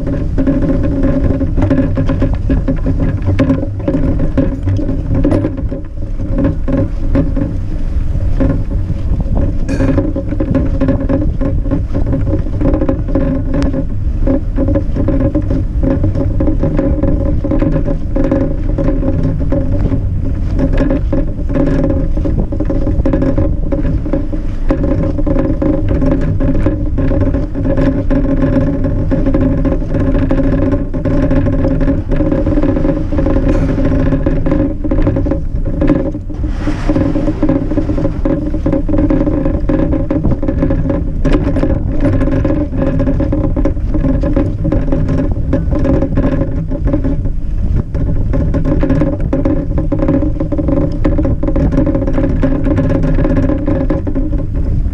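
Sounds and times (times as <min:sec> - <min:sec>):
low rumble: 0:00.0 - 0:54.9
small knocks and rattles: 0:00.0 - 0:54.9.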